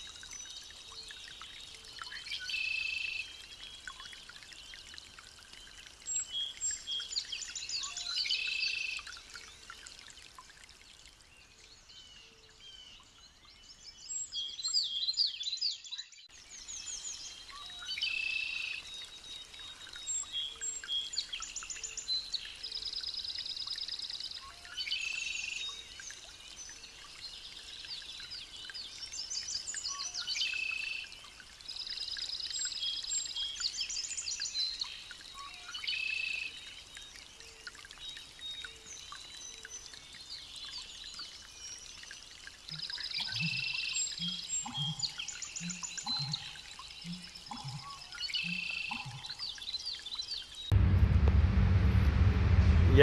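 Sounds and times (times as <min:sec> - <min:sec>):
songbirds singing and chirping: 0:00.0 - 0:10.5, 0:11.2 - 0:50.7.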